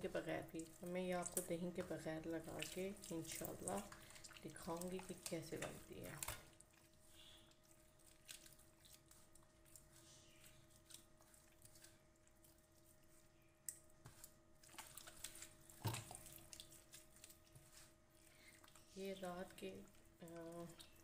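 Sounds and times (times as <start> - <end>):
hands squelching on raw meat: 0.5 - 21.0.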